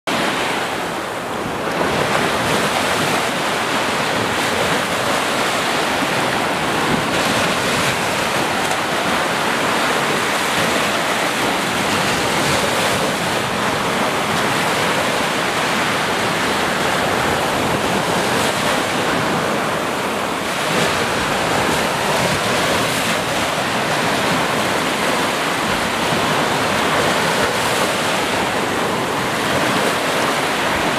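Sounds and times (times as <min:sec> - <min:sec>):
small waves breaking on beach: 0:00.1 - 0:30.9.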